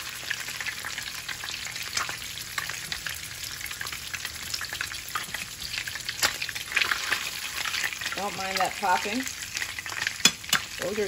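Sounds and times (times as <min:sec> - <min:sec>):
meatballs sizzling in oil: 0:00.0 - 0:11.0.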